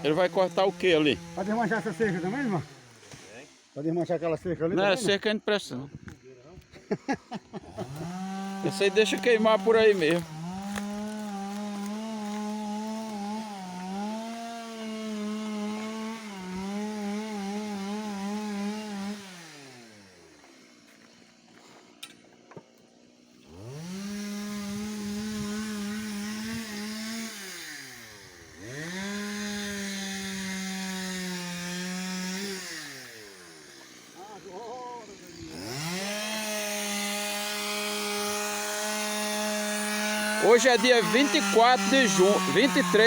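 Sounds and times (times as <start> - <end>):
chainsaw cutting wood: 0.0 - 4.0, 6.7 - 43.0.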